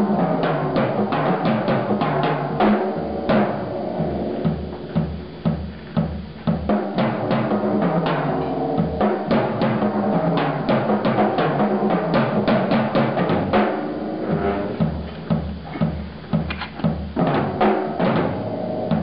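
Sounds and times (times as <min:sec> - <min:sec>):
jazz drum kit: 0:00.0 - 0:19.0.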